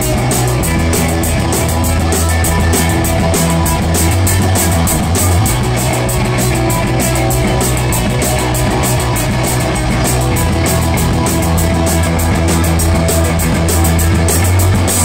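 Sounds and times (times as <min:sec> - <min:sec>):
bass line: 0:00.0 - 0:15.0
fast cymbal beat: 0:00.0 - 0:15.0
rock band playing live: 0:00.0 - 0:15.0.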